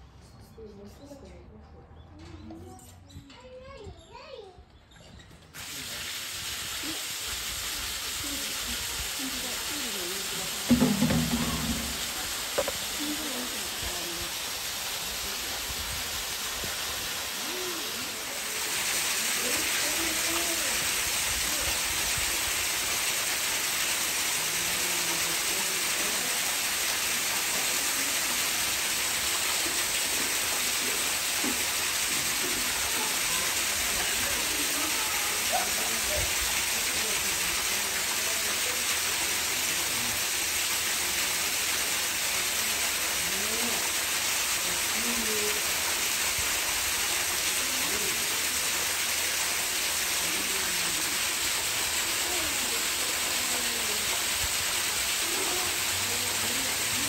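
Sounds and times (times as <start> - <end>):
faint voices: 6.7 - 22.3, 24.2 - 41.6, 42.4 - 57.0.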